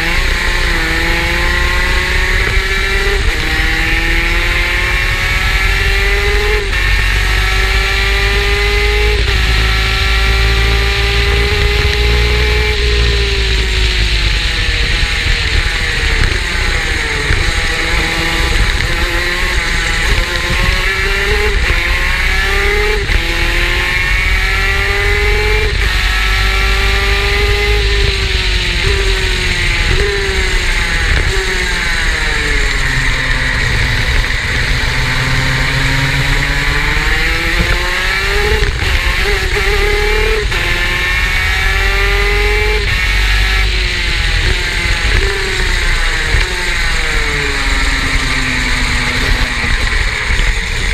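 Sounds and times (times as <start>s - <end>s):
two-stroke engine accelerating: 0.0s - 50.9s.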